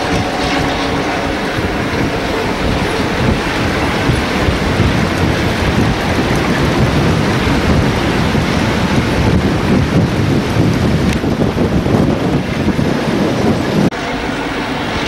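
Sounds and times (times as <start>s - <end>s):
passenger train passing: 0.0s - 15.0s
wind buffeting microphone: 0.0s - 15.0s.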